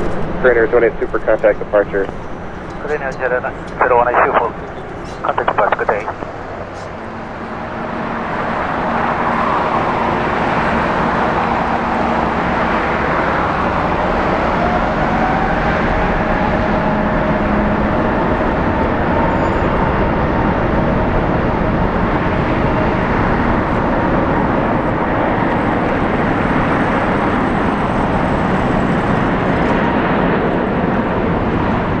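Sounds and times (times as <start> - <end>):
jet engine roar with whine: 0.0 - 32.0.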